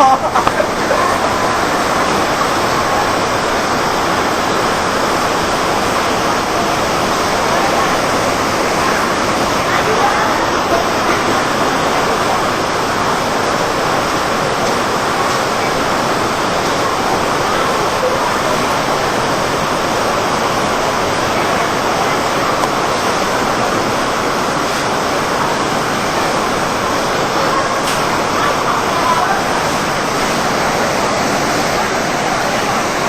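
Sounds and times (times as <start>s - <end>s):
water rushing over cascades: 0.0s - 33.0s.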